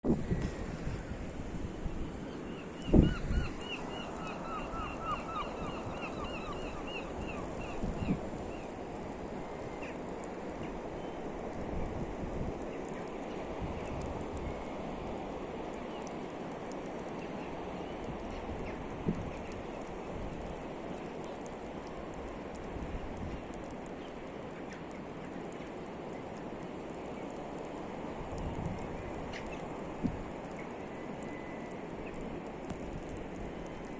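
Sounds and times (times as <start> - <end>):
wind and surf: 0.0 - 33.9.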